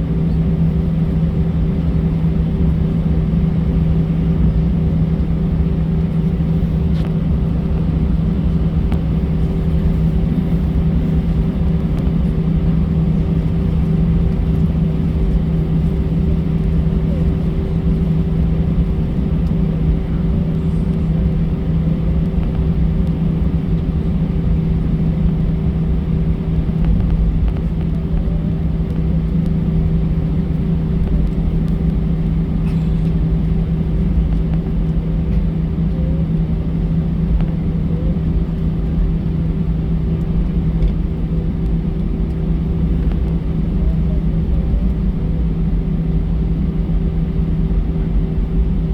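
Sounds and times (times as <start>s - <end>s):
airplane cabin drone: 0.0s - 48.9s.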